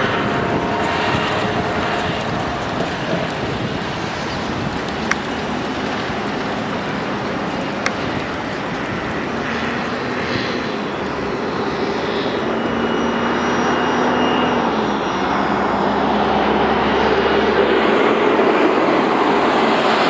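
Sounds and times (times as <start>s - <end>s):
model plane engine buzzing: 0.0s - 20.0s.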